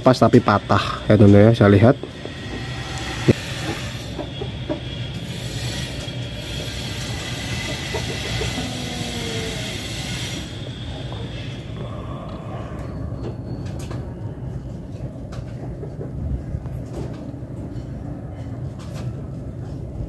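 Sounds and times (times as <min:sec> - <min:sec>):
steady rumbling background noise: 0:00.0 - 0:20.0.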